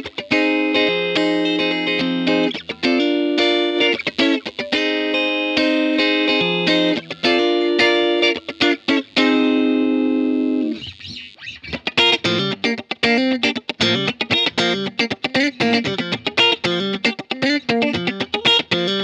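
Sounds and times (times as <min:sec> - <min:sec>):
electric guitar chords and notes: 0:00.0 - 0:19.0.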